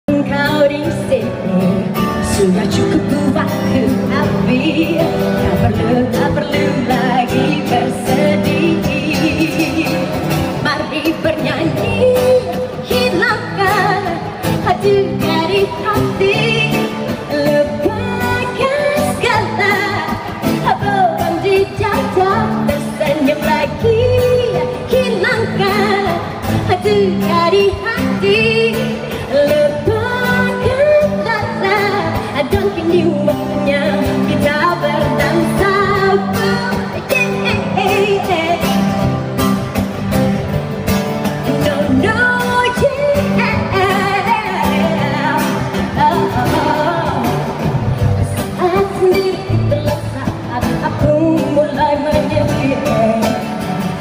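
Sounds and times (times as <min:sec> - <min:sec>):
live band with guitars and keyboard: 0:00.0 - 0:54.0
woman singing pop song: 0:00.0 - 0:54.0.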